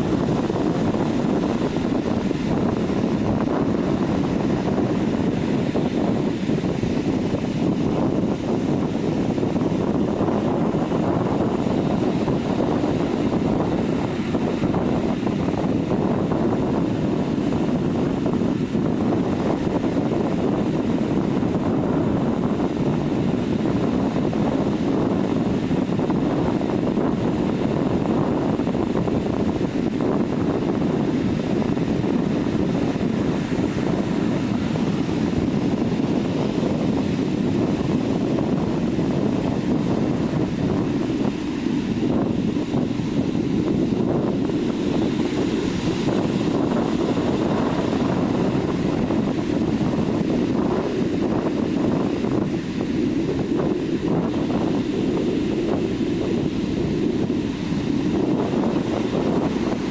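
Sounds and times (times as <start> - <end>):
sea surf on a beach: 0.0 - 59.9.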